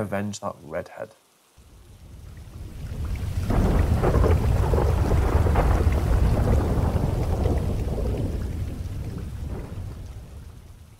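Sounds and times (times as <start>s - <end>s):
steady rain: 0.0s - 10.9s
thunder rumbling: 1.8s - 10.9s.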